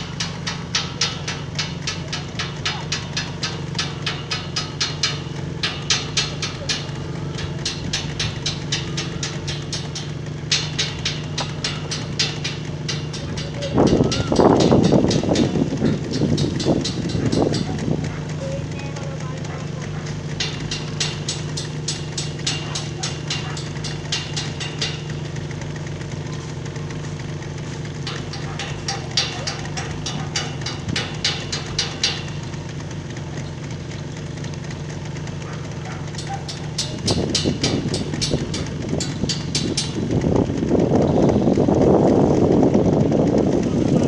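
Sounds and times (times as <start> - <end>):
quick even tapping: 0.0 - 41.8
loud rough engine noise: 0.0 - 44.0
machinery engine humming: 0.0 - 44.0.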